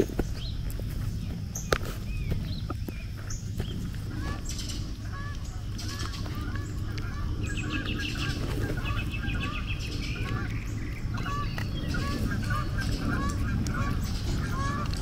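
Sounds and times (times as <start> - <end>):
steady low rumble: 0.0 - 15.0
flock of fowl calling: 1.2 - 15.0.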